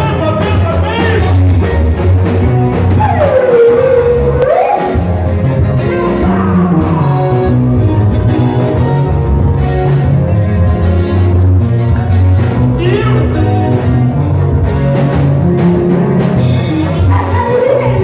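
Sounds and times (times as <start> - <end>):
bass line: 0.0 - 18.0
drum kit: 0.0 - 18.0.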